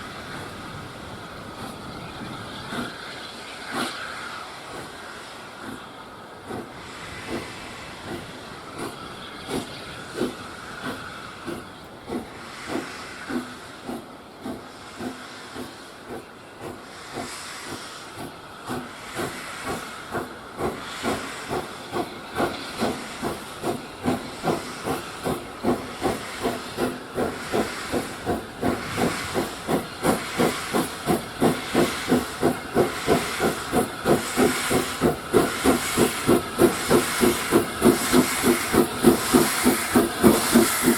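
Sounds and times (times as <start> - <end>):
steam hissing: 0.0 - 40.9
steam locomotive exhaust beats: 0.0 - 40.9.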